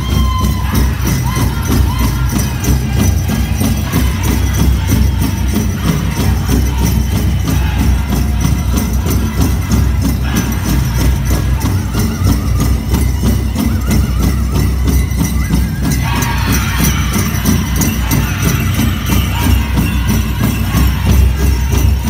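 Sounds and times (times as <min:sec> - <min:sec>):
bells jingling: 0:00.0 - 0:22.0
drum music with steady beat: 0:00.0 - 0:22.0.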